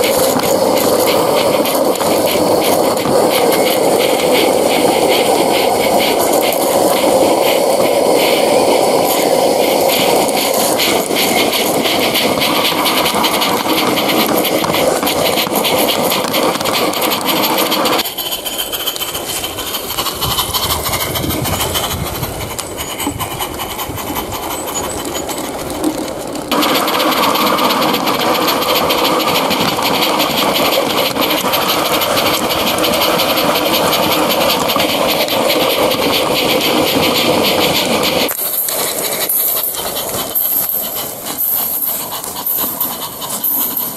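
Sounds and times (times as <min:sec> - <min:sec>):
steam hissing: 0:00.0 - 0:43.9
steam locomotive exhaust beats: 0:00.0 - 0:43.9.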